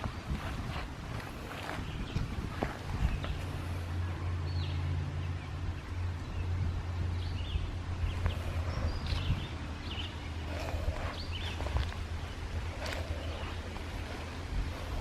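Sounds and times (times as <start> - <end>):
steady low rumble: 0.0 - 15.0
wild birds chirping: 0.0 - 15.0.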